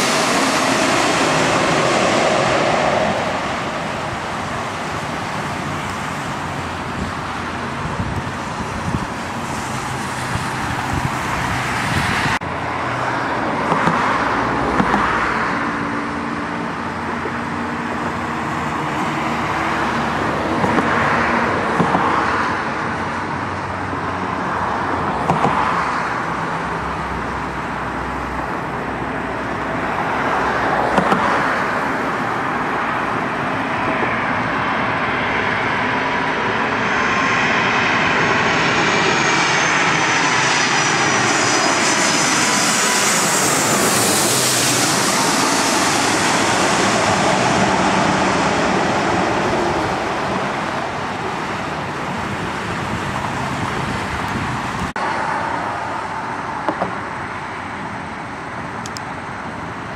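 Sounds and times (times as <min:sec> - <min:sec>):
jet airliner engine whine: 0:00.0 - 0:59.9
road traffic hum: 0:00.0 - 0:59.9.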